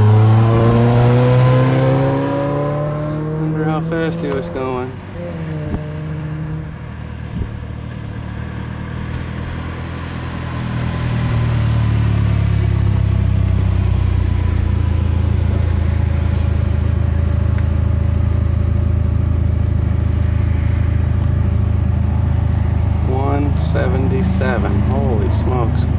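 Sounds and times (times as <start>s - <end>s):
car engine running: 0.0s - 25.9s.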